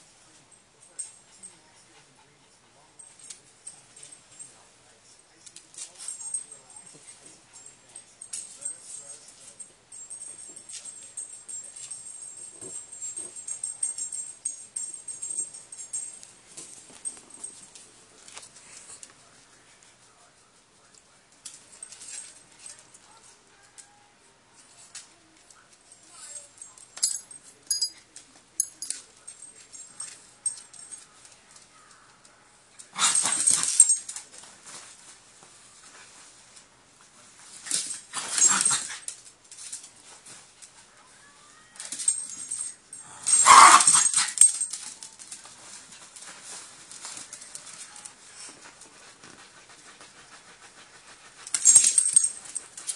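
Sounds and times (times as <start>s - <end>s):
light metallic jingling: 2.8s - 19.2s, 20.9s - 24.0s, 24.6s - 32.2s, 32.8s - 35.0s, 37.4s - 40.8s, 41.5s - 52.9s.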